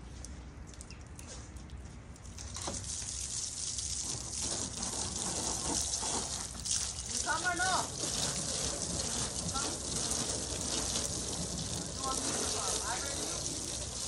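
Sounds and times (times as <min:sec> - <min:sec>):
hose spraying water on car: 0:02.4 - 0:14.0.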